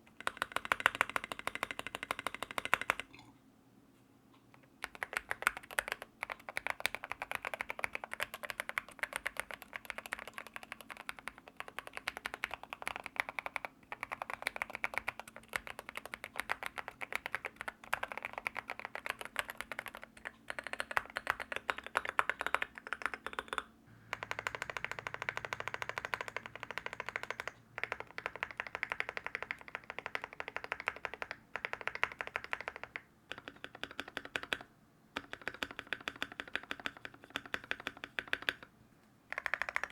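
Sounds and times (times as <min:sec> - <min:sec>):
mechanical keyboard typing: 0:00.2 - 0:03.1, 0:04.8 - 0:38.7, 0:39.3 - 0:39.9.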